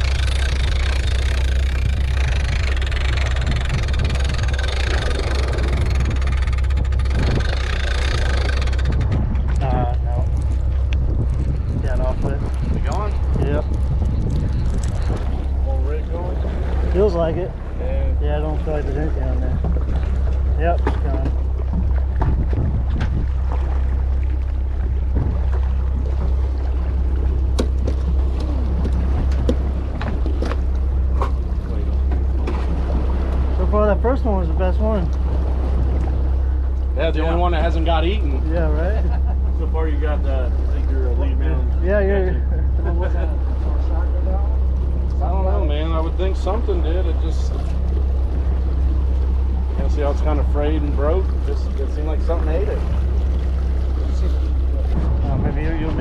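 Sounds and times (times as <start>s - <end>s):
boat engine droning: 0.0s - 56.0s
water and wind noise: 0.0s - 56.0s.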